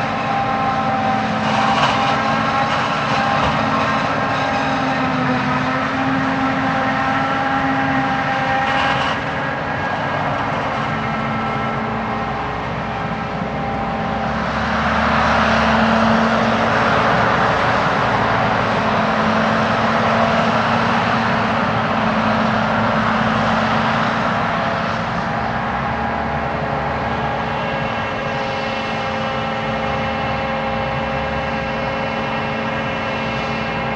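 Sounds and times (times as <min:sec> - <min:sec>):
harvest machinery diesel engines: 0:00.0 - 0:33.9.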